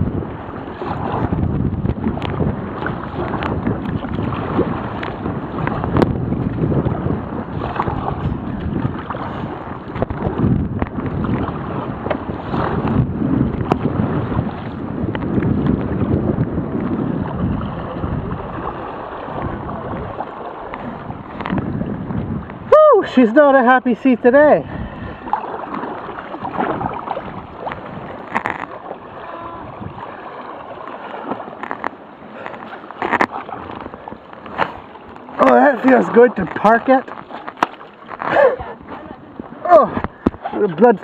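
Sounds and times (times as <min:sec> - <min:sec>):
strong wind buffeting microphone: 0:00.0 - 0:41.0
water sloshing around kayak: 0:00.0 - 0:41.0.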